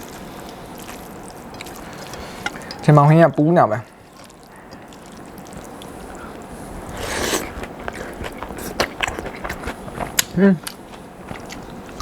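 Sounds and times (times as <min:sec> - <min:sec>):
chewing crisp crackles: 0:00.0 - 0:03.0, 0:03.8 - 0:12.0.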